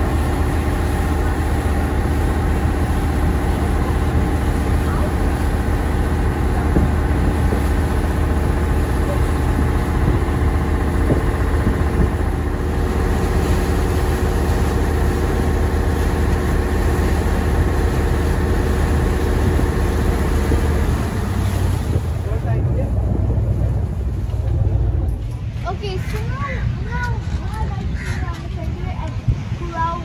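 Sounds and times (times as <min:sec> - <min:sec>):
engine droning steadily: 0:00.0 - 0:30.0.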